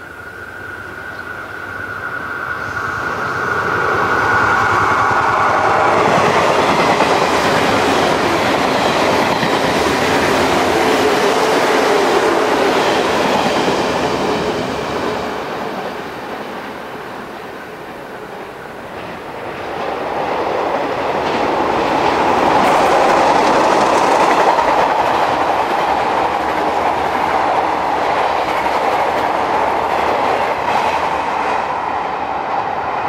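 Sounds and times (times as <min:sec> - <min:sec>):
high whine of electric train: 0:00.0 - 0:33.0
train running noise: 0:00.0 - 0:33.0.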